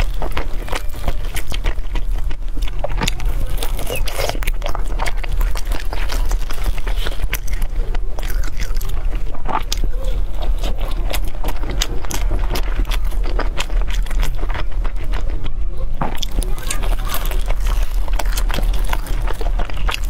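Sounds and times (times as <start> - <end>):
crisp chewing: 0.0 - 20.0
steady low hum: 0.0 - 20.0
wet mouth sounds: 0.0 - 20.0.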